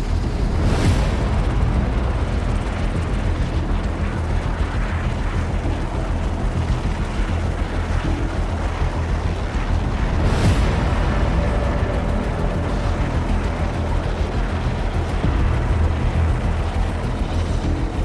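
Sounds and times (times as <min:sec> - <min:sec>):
helicopter engine and rotors: 0:00.0 - 0:18.0.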